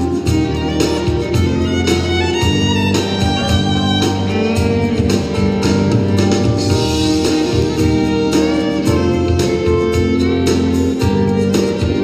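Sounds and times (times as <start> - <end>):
fiddle: 0.0 - 12.0
guitar: 0.0 - 12.0
steady beat: 0.0 - 12.0.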